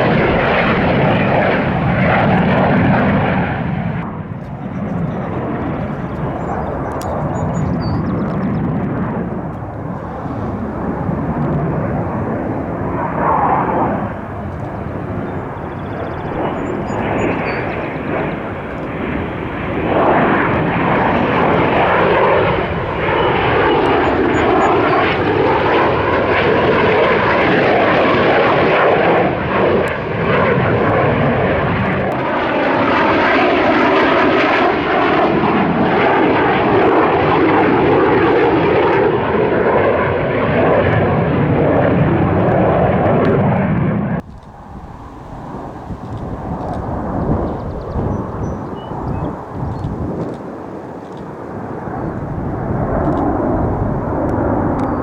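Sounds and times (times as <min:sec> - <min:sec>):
aircraft flying past: 0:00.0 - 0:55.0.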